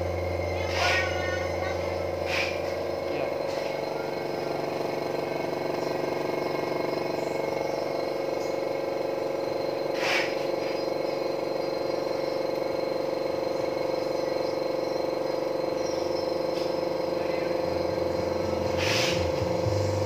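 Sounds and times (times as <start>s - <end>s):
air compressor humming: 0.0s - 20.0s.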